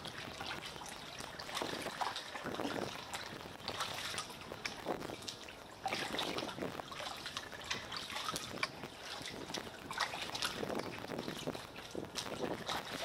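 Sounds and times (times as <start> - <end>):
paddle splashes: 0.0 - 13.0
water trickling and dripping: 0.0 - 13.0.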